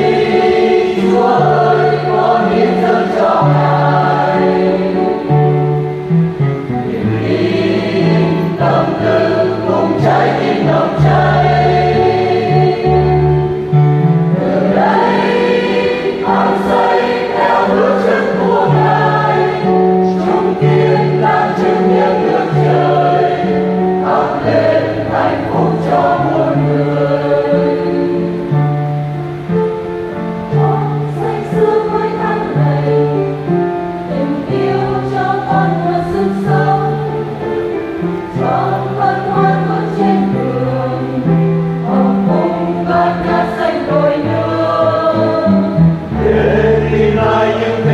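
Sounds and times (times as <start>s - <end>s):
choir singing a hymn: 0.0s - 47.9s
instrumental accompaniment: 0.0s - 47.9s.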